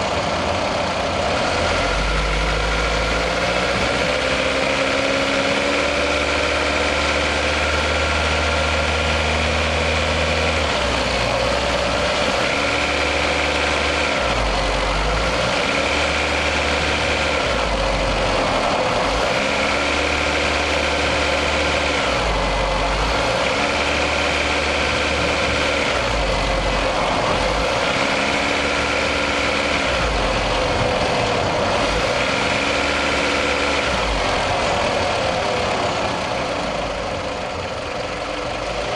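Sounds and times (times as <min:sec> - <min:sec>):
car engine pulling under load: 0:00.0 - 0:38.9
engine knock: 0:00.0 - 0:38.9.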